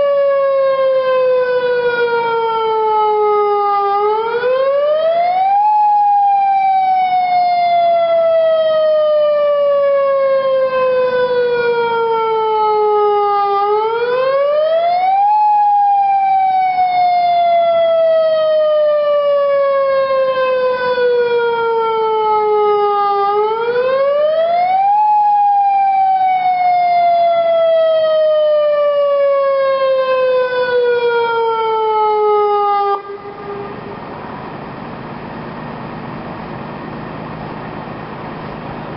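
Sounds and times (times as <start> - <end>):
tornado warning siren: 0.0 - 38.9.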